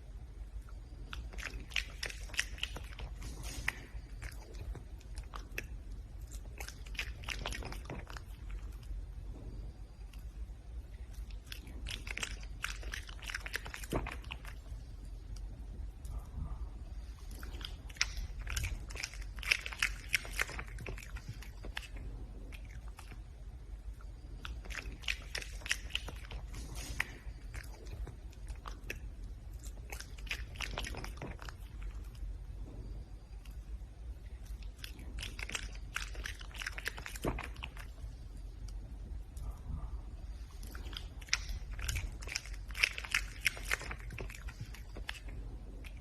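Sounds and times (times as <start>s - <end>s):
animal chewing and crunching food: 0.0s - 46.0s
low steady hum: 0.0s - 46.0s.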